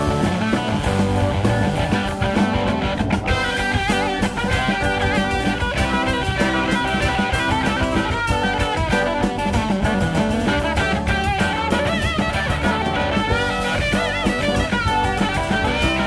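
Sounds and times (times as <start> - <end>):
bass guitar: 0.0 - 16.0
drum kit steady beat: 0.0 - 16.0
electric guitar: 0.0 - 16.0.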